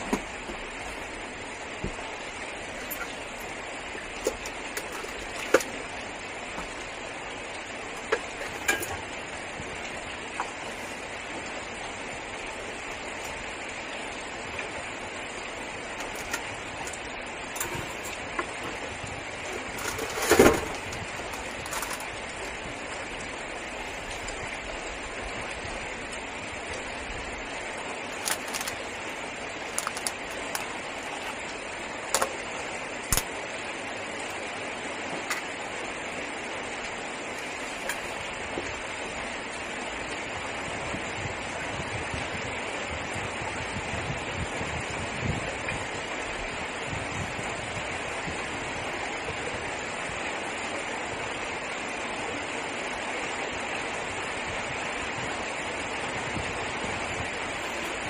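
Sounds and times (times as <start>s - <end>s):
heavy rain on a car roof: 0.0s - 58.0s.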